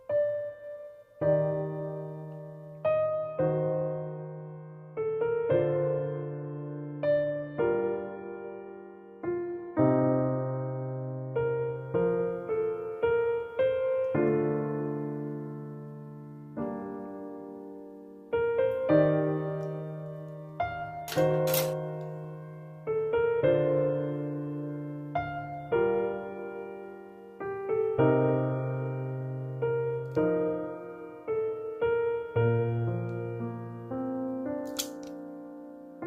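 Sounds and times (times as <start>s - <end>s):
slow soft piano music: 0.0s - 36.0s.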